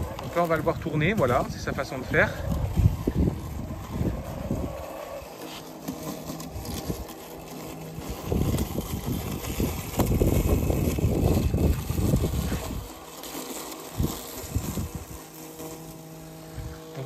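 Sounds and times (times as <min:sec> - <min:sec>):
robotic lawn mower humming: 0:00.0 - 0:17.0.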